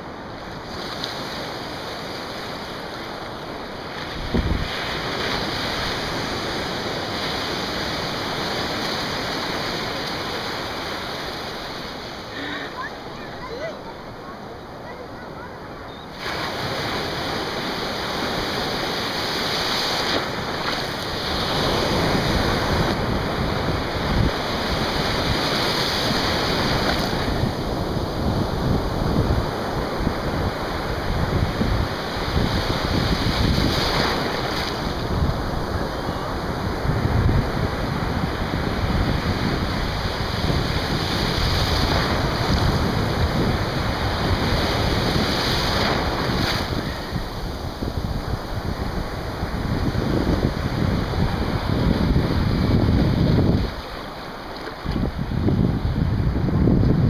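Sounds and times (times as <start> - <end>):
ocean surf breaking: 0.0 - 57.0
wind on microphone: 0.0 - 57.0.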